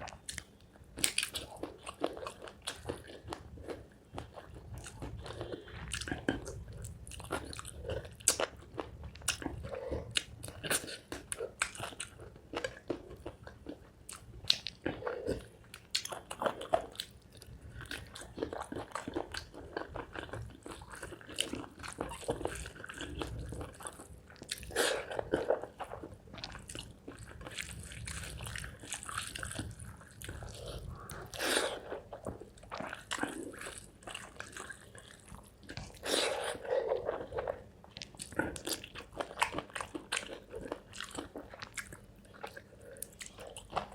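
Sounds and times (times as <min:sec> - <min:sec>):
person chewing: 0:00.0 - 0:43.9.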